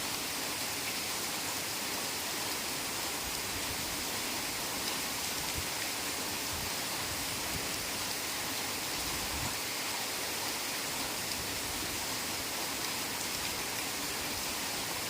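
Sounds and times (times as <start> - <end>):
heavy rain in a forest: 0.0 - 15.0.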